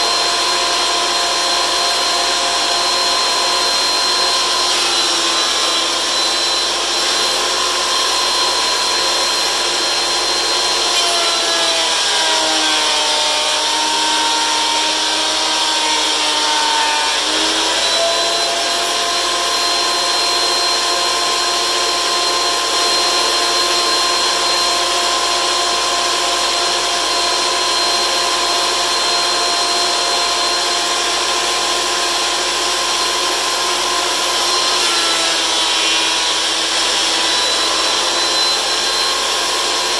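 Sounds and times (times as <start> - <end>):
thickness planer whining: 0.0 - 39.9.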